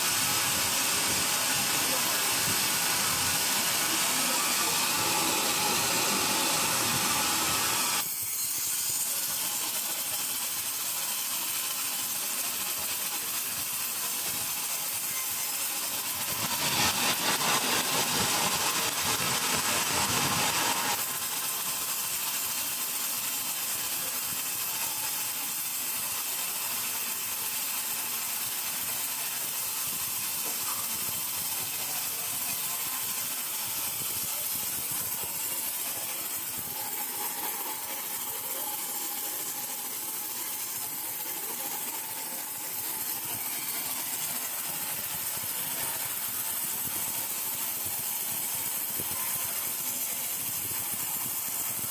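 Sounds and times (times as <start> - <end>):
steady hissing noise: 0.0 - 51.9.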